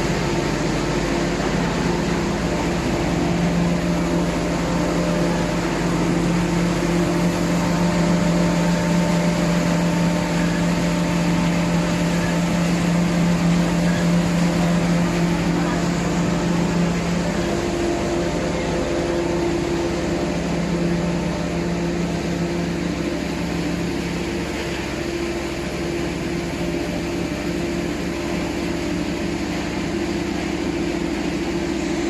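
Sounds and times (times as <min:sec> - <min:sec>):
production-line machinery humming: 0:00.0 - 0:32.0.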